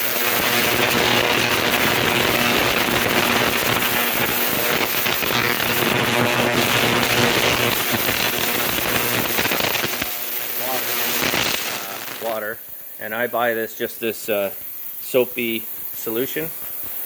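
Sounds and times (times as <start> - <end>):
cleaning bath hiss: 0.0 - 17.0
electrical buzz: 0.0 - 17.0.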